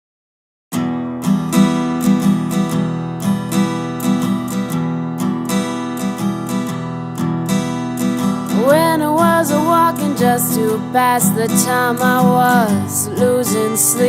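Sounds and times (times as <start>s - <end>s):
acoustic guitar strumming: 0.7s - 14.0s.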